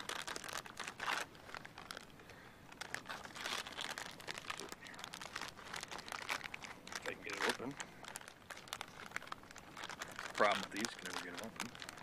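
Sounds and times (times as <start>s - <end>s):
foil packet crinkling: 0.0s - 12.0s.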